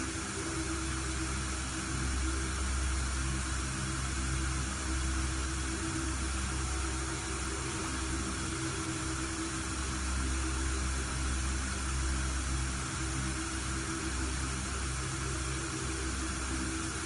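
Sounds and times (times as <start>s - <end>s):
low humming tones: 0.0s - 17.0s
steady hiss of noise: 0.0s - 17.0s.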